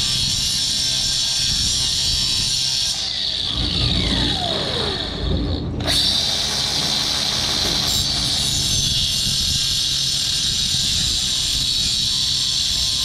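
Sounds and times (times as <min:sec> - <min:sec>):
angle grinder cutting steel: 0:00.0 - 0:13.0.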